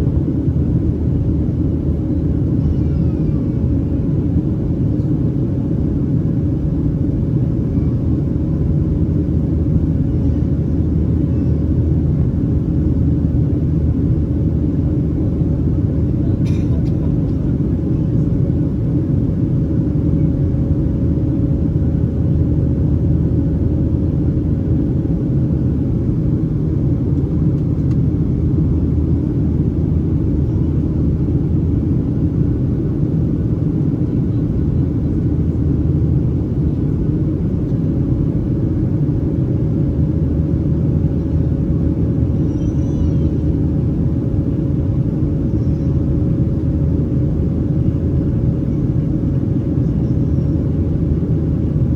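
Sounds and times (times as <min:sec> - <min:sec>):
airplane cabin rumble: 0:00.0 - 0:51.9.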